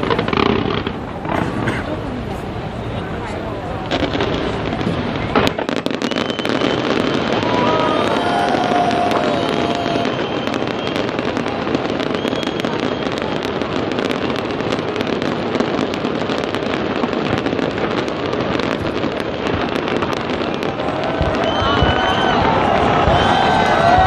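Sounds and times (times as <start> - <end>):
fireworks crackling and popping: 0.0 - 24.0.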